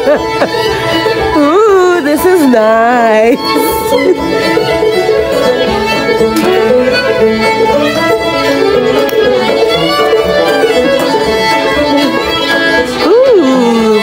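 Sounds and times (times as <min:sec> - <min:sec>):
acoustic guitar accompaniment: 0:00.0 - 0:14.0
violin melody: 0:00.0 - 0:14.0.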